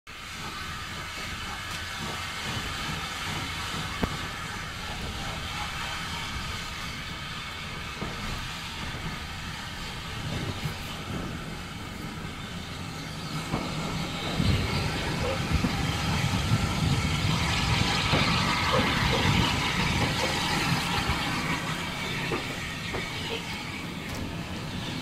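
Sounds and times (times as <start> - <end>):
steam train hiss: 0.1 - 25.0.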